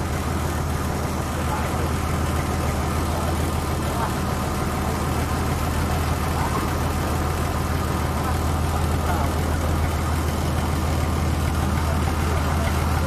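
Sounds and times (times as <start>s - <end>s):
ferry engine droning: 0.0s - 13.0s.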